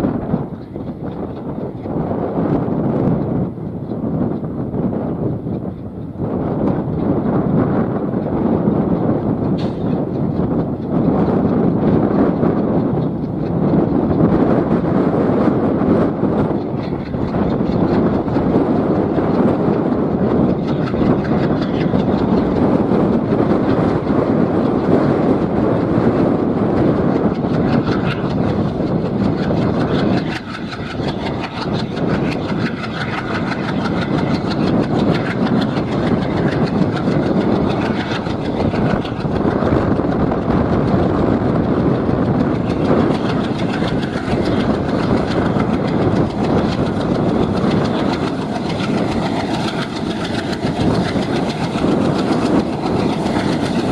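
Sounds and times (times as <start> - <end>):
train rumbling: 0.0 - 53.9
wheels clattering on rails: 0.0 - 53.9.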